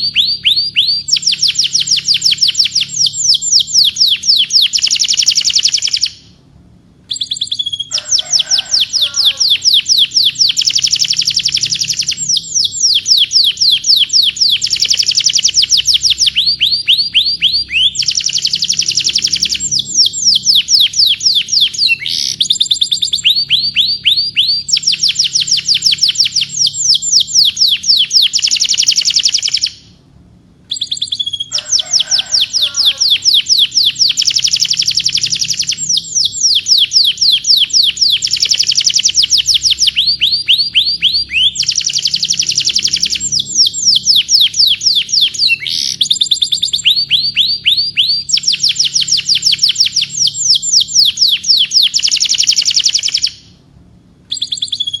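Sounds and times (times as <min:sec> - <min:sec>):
canary trilling: 0:00.0 - 0:06.4, 0:07.1 - 0:30.0, 0:30.7 - 0:53.6, 0:54.3 - 0:55.0.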